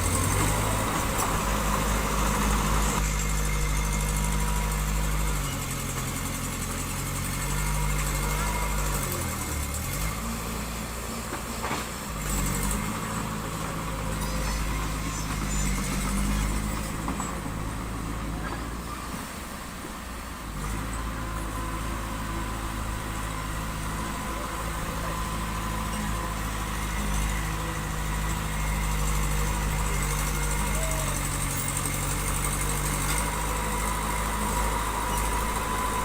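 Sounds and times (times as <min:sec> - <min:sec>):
heavy diesel engine under load: 0:00.0 - 0:36.0.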